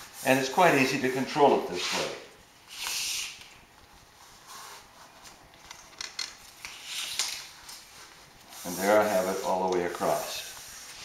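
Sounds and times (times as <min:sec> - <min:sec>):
banner rubbing and crinkling: 0:00.0 - 0:11.0.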